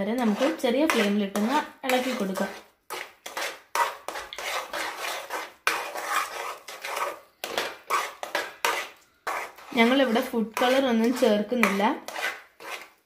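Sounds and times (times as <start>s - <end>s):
metal spoon scraping frying pan: 0.0s - 13.0s.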